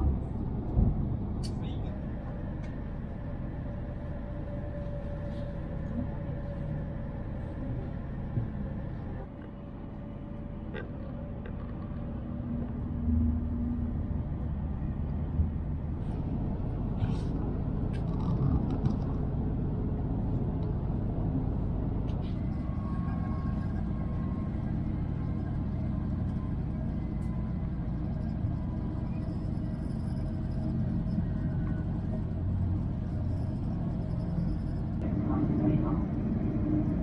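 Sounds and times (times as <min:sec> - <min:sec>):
train cabin rumble and rush: 0:00.0 - 0:37.0.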